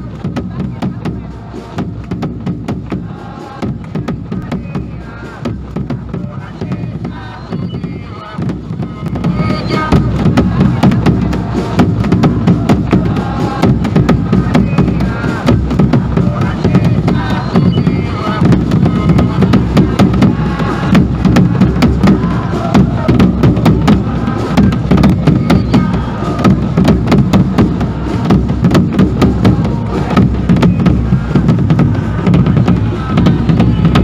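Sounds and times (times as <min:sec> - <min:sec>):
bass drums beating: 0:00.0 - 0:34.0
crowd chanting: 0:00.0 - 0:34.0.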